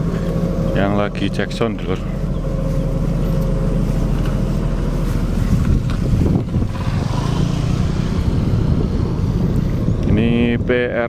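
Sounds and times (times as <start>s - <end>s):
deep bass rumble from subwoofers: 0.0s - 11.0s
wind buffeting microphone: 0.0s - 11.0s.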